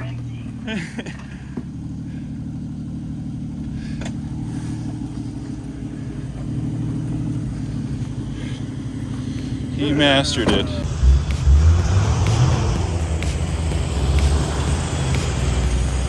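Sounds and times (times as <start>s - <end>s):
off-road vehicle engine at low revs: 0.0s - 16.0s.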